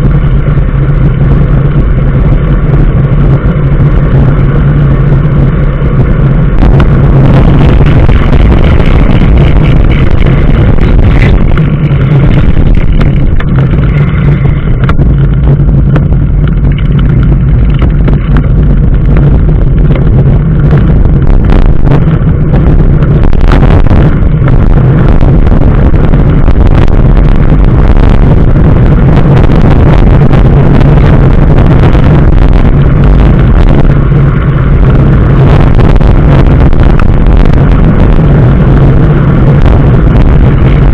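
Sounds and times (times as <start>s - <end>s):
road noise: 0.0s - 40.9s
vehicle engine droning: 0.0s - 40.9s.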